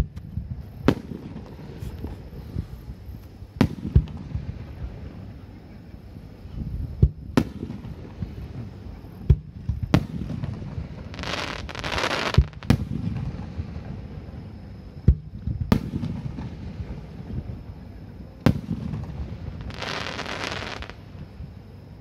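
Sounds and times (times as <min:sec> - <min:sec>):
dense firework crackle: 0:00.0 - 0:05.6, 0:06.5 - 0:21.4.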